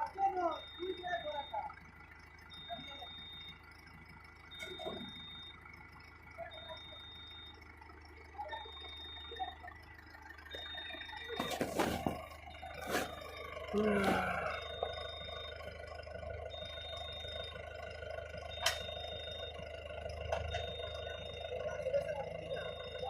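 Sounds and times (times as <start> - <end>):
low engine hum: 0.0 - 23.0
vehicle warning beeper: 0.0 - 23.0.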